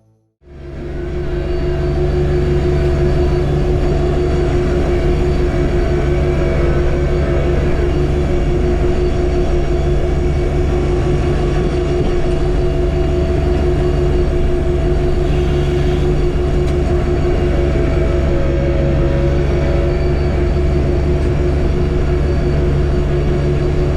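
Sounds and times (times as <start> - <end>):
tractor diesel engine running: 0.4 - 23.9.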